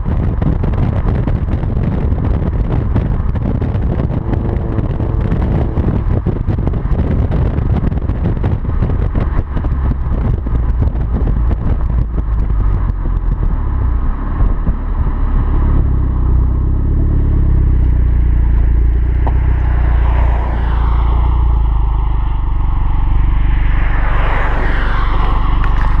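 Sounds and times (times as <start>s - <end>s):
car exhaust drone: 0.0s - 26.0s.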